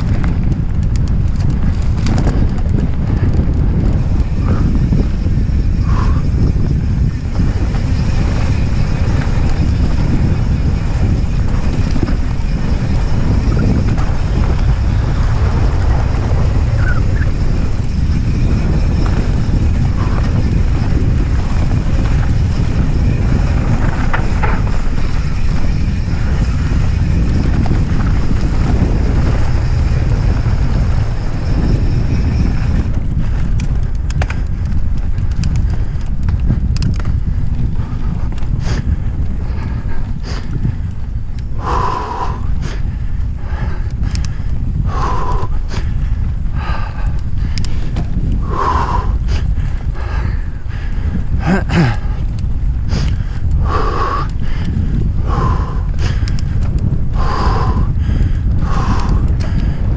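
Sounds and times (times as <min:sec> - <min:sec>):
low rumble: 0:00.0 - 0:59.9
mountain bike clicks: 0:00.0 - 0:59.9
wind buffeting microphone: 0:00.0 - 0:59.9.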